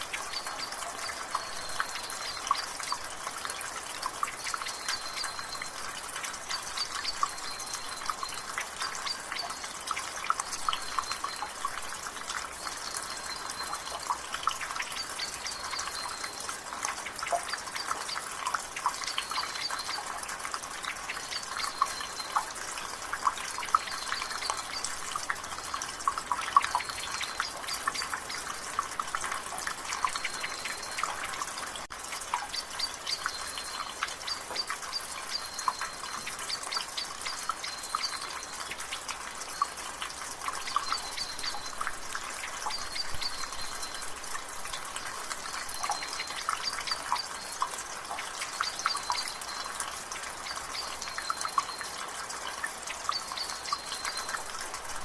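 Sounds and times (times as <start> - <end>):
light rain hiss: 0.0 - 55.0
water dripping from gutter: 0.0 - 55.0.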